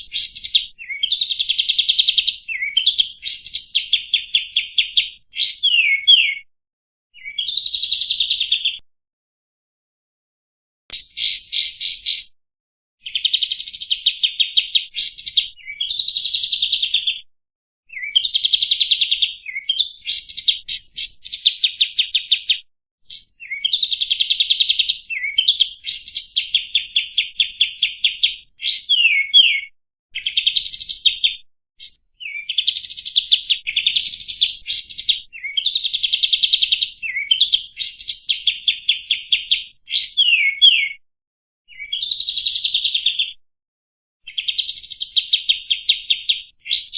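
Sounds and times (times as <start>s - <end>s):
songbird chattering song: 0.0s - 6.4s, 7.2s - 8.8s, 10.9s - 12.3s, 13.0s - 17.2s, 17.9s - 41.0s, 44.3s - 46.9s.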